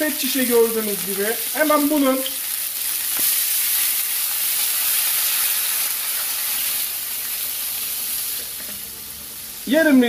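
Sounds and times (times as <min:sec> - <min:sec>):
water hissing in hot pan: 0:00.0 - 0:10.0.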